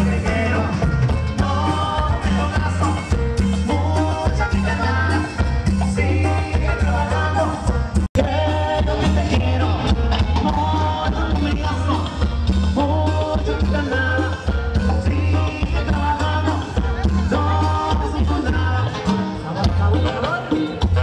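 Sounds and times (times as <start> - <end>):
latin dance music with singing: 0.0 - 21.0.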